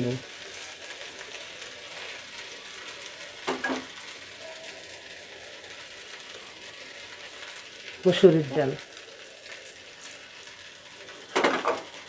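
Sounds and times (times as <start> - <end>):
rice and spices sizzling in pot: 0.0 - 12.0.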